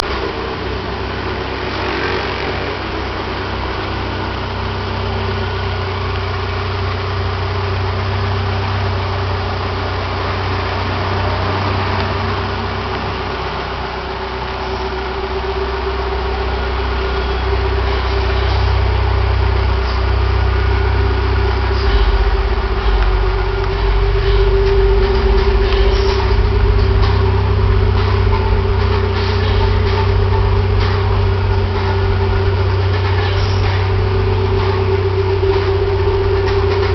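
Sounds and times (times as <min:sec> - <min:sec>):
engine idling: 0:00.0 - 0:36.9.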